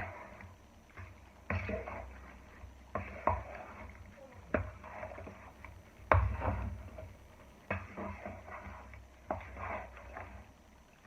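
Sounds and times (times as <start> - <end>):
wet sticky mixing in bowl: 0.0 - 11.0.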